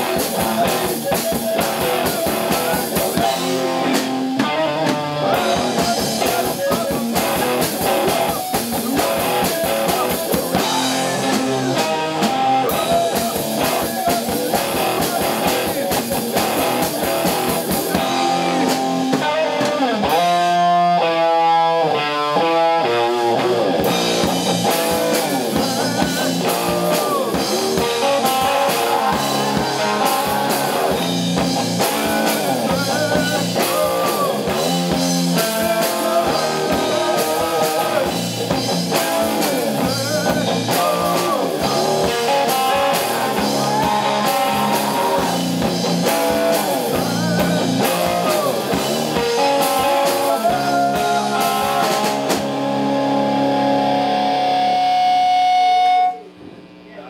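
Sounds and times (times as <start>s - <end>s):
drum kit steady beat: 0.0s - 20.8s, 23.2s - 56.2s
electric guitar with bent notes: 0.0s - 57.0s.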